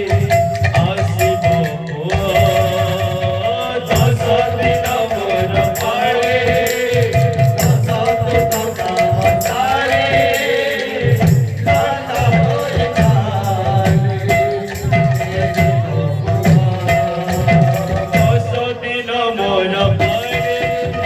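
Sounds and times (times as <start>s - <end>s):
jingling hand cymbals: 0.0s - 21.0s
man singing into a microphone: 0.0s - 21.0s
rhythmic drum: 0.0s - 21.0s.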